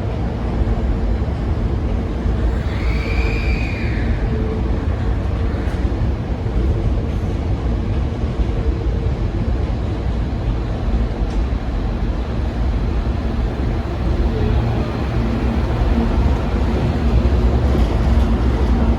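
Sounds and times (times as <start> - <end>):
electric train rumbling: 0.0 - 18.9.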